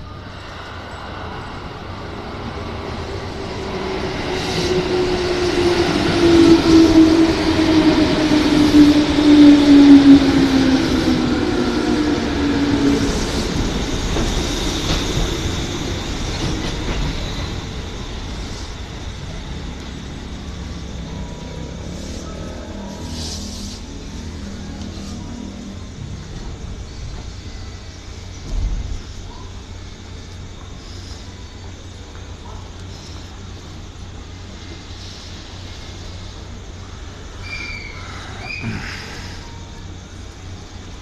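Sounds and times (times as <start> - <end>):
train braking: 0.0 - 41.0
train wheel and running noise: 0.0 - 41.0.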